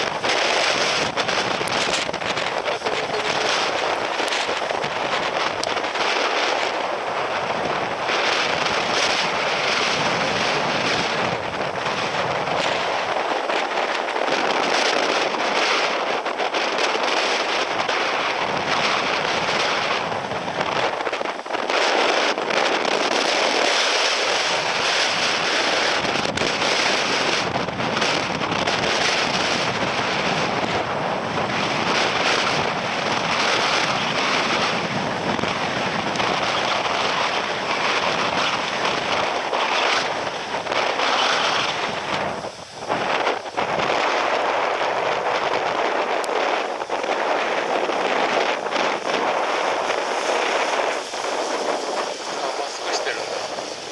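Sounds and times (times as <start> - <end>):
wind and rain rushing over microphone: 0.0 - 53.9.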